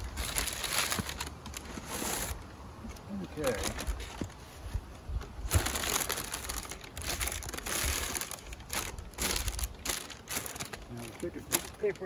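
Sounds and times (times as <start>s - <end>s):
paper crinkling and rustling: 0.0s - 2.4s, 3.4s - 4.6s, 5.4s - 12.0s.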